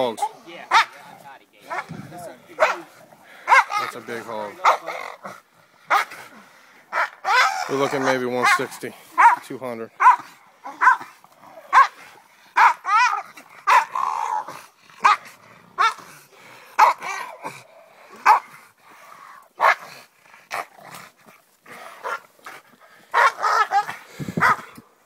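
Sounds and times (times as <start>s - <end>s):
dogs barking excitedly: 0.0s - 18.7s, 19.3s - 24.9s.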